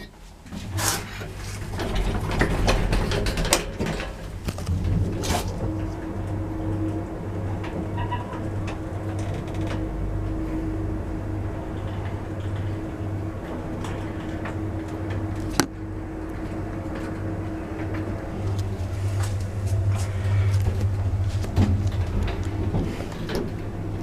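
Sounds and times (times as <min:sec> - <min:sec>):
lift machinery humming: 0:00.0 - 0:24.0.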